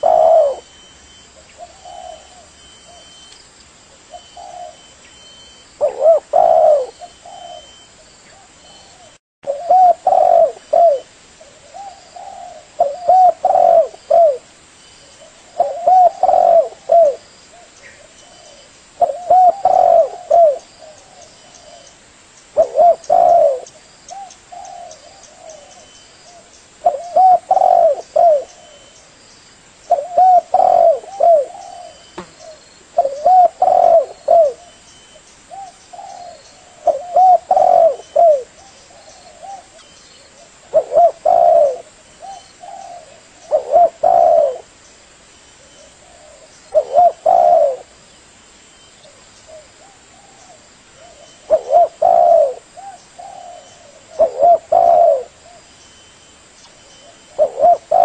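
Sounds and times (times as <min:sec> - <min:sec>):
dove cooing: 0:00.0 - 0:03.3, 0:04.0 - 0:14.5, 0:15.1 - 0:21.9, 0:22.6 - 0:29.0, 0:29.9 - 0:44.8, 0:45.6 - 0:48.0, 0:49.0 - 0:55.7, 0:57.0 - 0:58.0.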